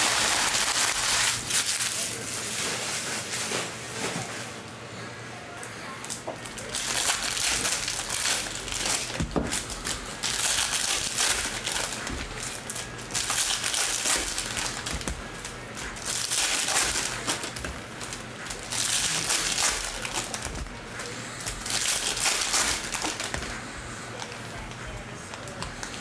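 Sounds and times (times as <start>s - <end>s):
foil wrappers tearing and crinkling: 0.0s - 4.4s, 6.0s - 23.5s.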